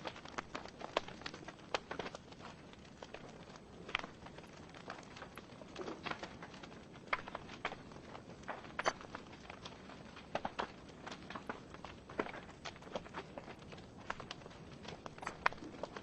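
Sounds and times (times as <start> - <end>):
soft hiss of flames: 0.0 - 16.0
wood fire crackling and popping: 0.0 - 16.0.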